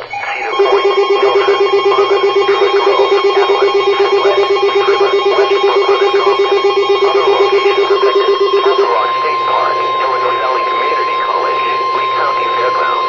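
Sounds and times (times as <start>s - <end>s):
pulsing electronic alert tone: 0.0s - 13.0s.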